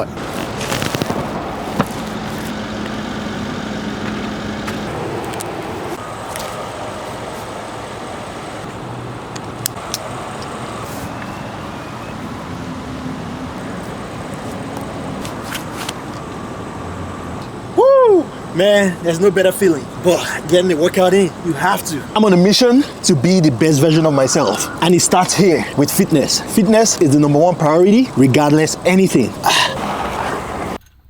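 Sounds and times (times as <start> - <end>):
vehicle noise: 0.0 - 31.0.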